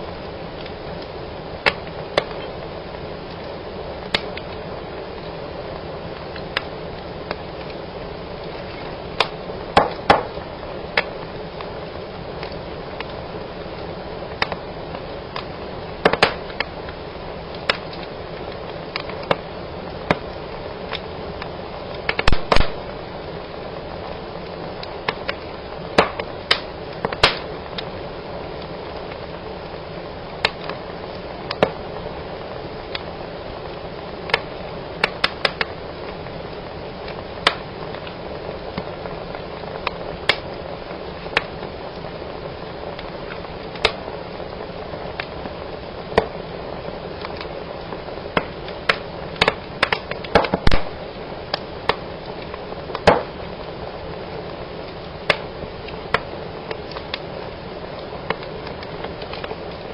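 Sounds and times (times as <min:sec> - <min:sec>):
fire flames rushing: 0:00.0 - 0:59.9
wood fire snapping and popping: 0:00.0 - 0:59.9.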